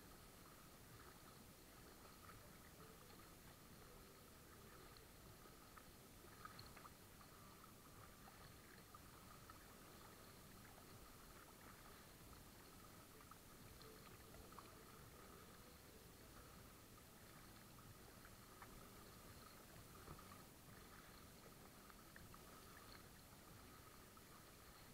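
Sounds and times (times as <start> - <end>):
water lapping against a kayak: 0.0 - 24.9.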